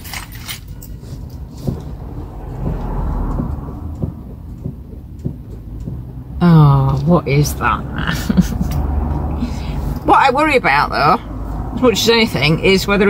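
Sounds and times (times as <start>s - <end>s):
low vehicle cab rumble: 0.0s - 13.0s.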